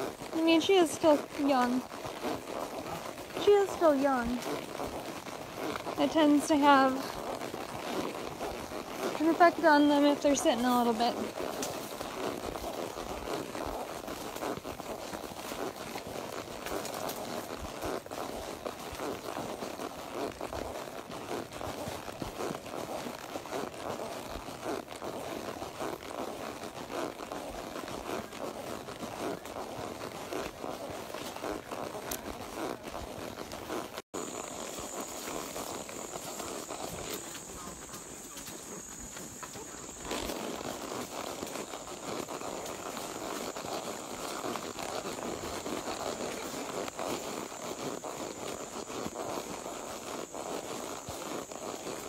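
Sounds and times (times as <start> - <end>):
horse hooves: 0.0 - 52.0
outdoor rustle: 0.0 - 52.0.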